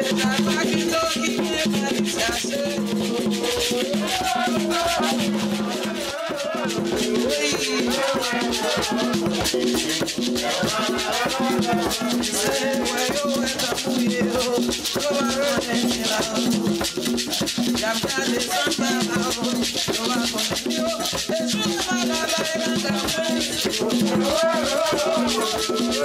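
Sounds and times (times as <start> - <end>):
shaker rattle: 0.0 - 26.0.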